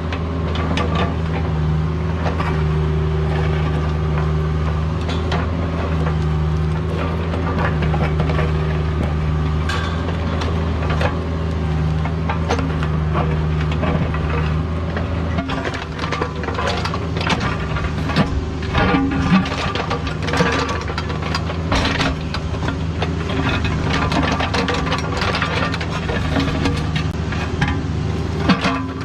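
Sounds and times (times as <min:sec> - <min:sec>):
excavator diesel engine running: 0:00.0 - 0:29.0
metal clanks and knocks: 0:02.2 - 0:29.0.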